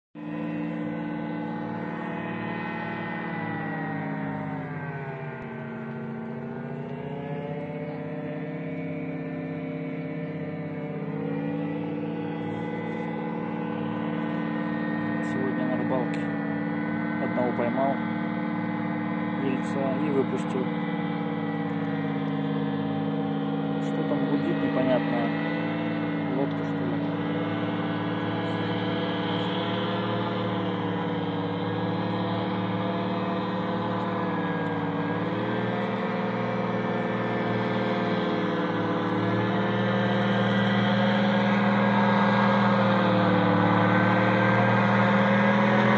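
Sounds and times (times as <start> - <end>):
outboard motor droning: 0.1 - 45.9.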